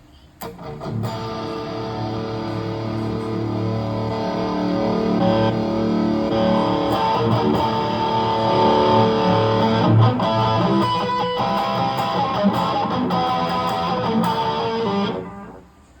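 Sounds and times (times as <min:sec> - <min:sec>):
electric guitar notes and chords: 0:00.4 - 0:15.7.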